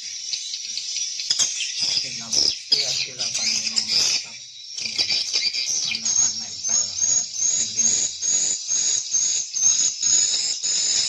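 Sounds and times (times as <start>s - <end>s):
dense hissing twitter: 0.0s - 11.0s
swiftlets chirping: 1.4s - 11.0s.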